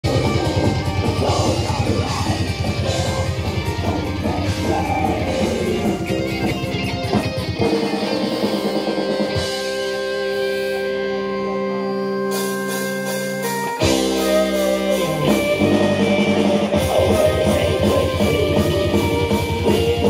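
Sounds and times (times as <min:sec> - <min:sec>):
pounding drum kit: 0:00.0 - 0:10.9, 0:12.3 - 0:20.0
electric guitar: 0:00.0 - 0:20.0.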